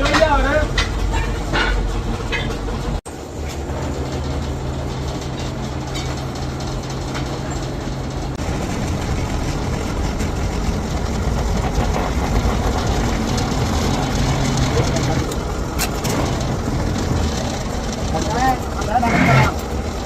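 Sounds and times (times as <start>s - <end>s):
heavy machinery clatter: 0.0s - 20.0s
low hum: 0.8s - 20.0s.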